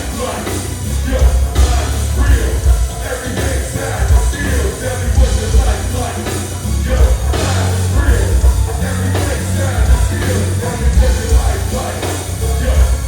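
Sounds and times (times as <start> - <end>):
loud music with heavy bass: 0.0 - 13.0
person singing: 0.0 - 13.0.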